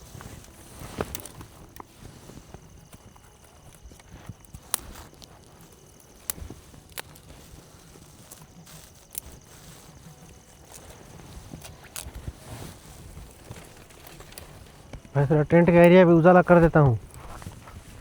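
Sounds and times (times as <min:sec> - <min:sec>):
faint rustling: 0:00.0 - 0:18.0
footsteps on dry forest ground: 0:00.0 - 0:18.0
twigs snapping: 0:00.4 - 0:18.0.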